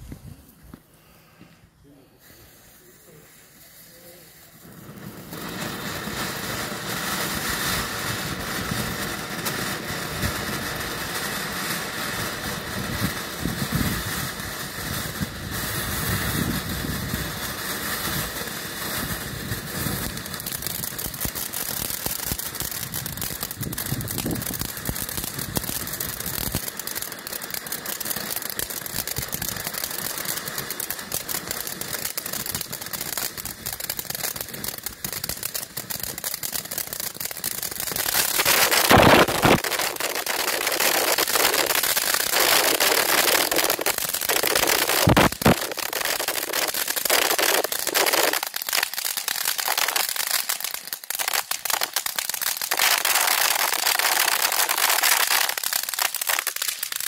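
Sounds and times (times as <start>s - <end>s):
firework fountain hissing: 0.0s - 57.0s
firework crackling: 2.1s - 57.0s.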